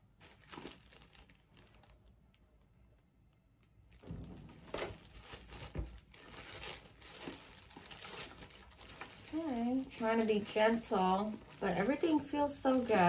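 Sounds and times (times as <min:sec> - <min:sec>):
packaging rustling: 0:00.0 - 0:02.4, 0:03.6 - 0:13.0.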